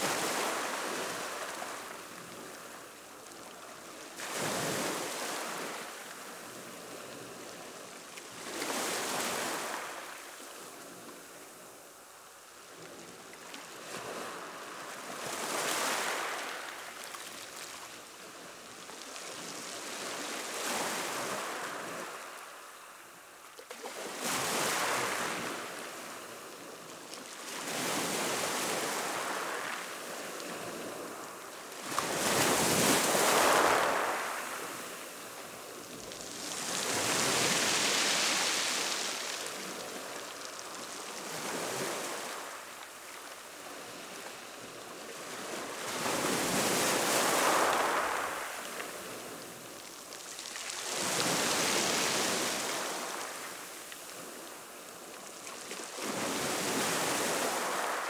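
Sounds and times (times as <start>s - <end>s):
waves washing onto shore: 0.0s - 58.0s.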